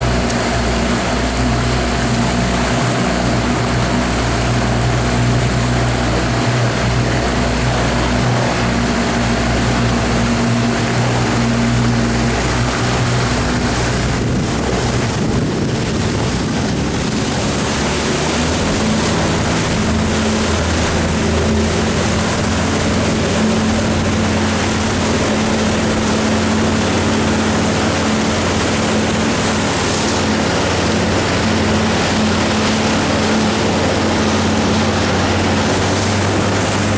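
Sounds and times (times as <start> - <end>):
boat engine running: 0.0 - 36.9
rushing water: 0.0 - 36.9
wind: 0.0 - 36.9.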